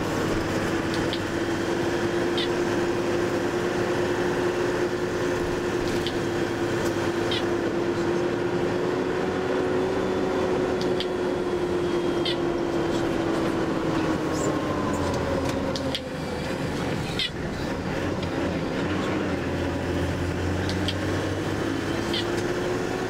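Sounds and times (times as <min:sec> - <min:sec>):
bus engine hum: 0:00.0 - 0:23.0
road noise: 0:00.0 - 0:23.0.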